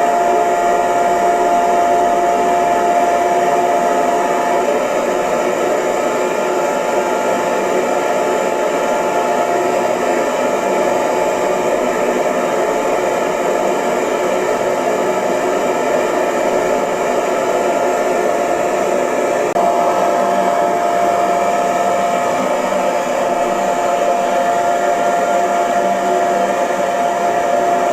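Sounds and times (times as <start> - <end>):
hair dryer running: 0.0 - 27.9.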